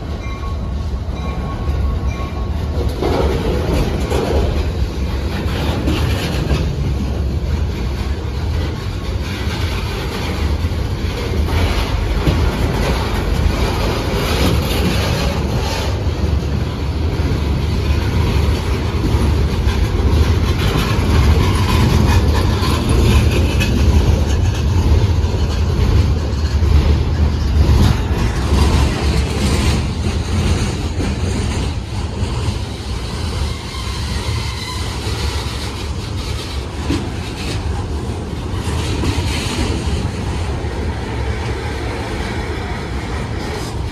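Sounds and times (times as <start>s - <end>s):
train rumbling on track: 0.0s - 43.9s.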